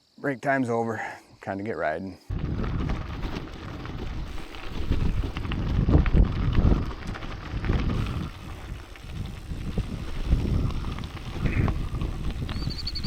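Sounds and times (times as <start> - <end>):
wind buffeting microphone: 2.3 - 13.0.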